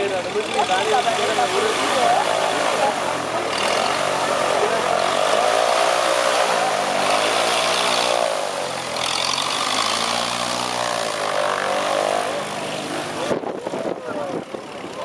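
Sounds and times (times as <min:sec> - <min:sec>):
model airplane engine revving: 0:00.0 - 0:15.0.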